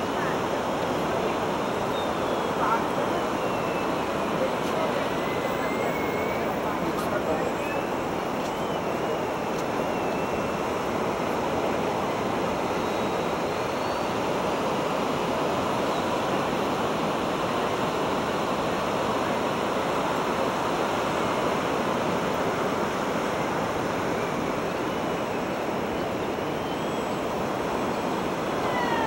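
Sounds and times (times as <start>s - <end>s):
model plane engine whine: 0.0s - 29.0s.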